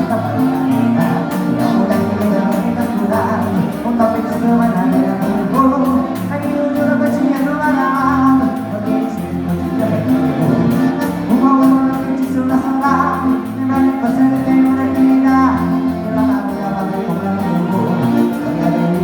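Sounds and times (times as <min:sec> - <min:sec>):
accordion: 0:00.0 - 0:19.0
person singing: 0:00.0 - 0:19.0
steady beat: 0:00.0 - 0:19.0.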